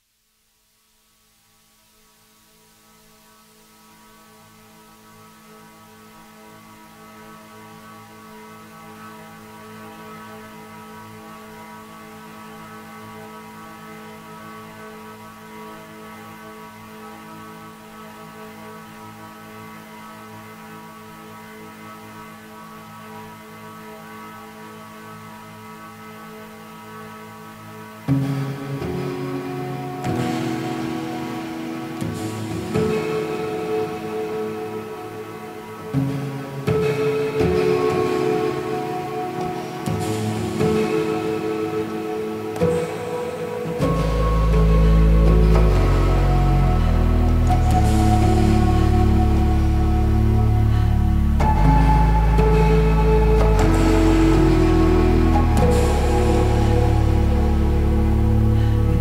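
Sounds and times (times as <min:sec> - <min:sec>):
synthesizer drone chord: 0:03.1 - 0:59.0.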